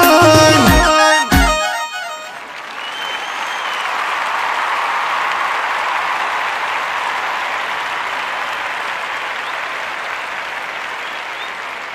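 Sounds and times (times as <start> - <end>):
audience applause: 2.2 - 11.9.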